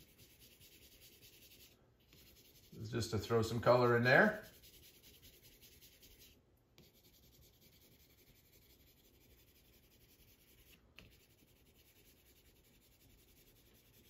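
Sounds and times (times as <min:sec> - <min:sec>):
pencil scratching on board: 0:00.0 - 0:02.8, 0:04.2 - 0:14.0.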